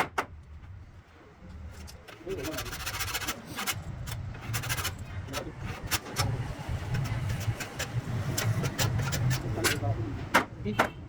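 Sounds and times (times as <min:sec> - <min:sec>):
sharp clicks and knocks: 0:01.8 - 0:11.0.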